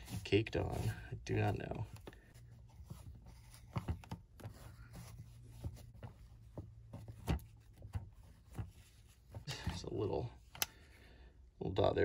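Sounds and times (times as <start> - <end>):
paper towel scrubbing plastic: 0.0 - 10.5.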